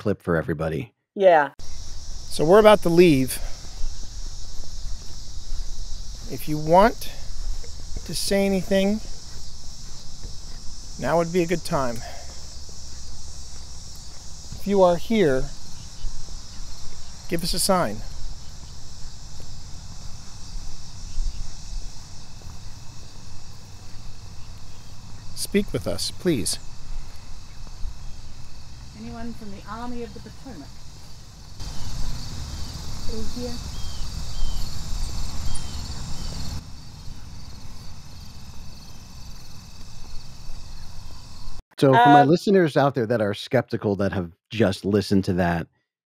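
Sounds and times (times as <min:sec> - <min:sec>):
crickets and insects chirping: 0:01.6 - 0:42.4.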